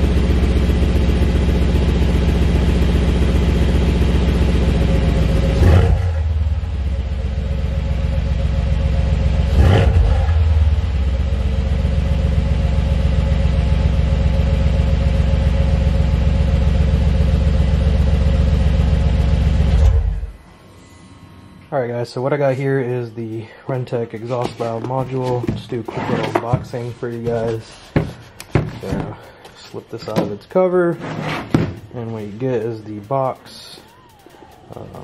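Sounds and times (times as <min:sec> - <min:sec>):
car engine idling: 0:00.0 - 0:20.6, 0:22.3 - 0:35.0
engine throttle blips: 0:00.0 - 0:35.0.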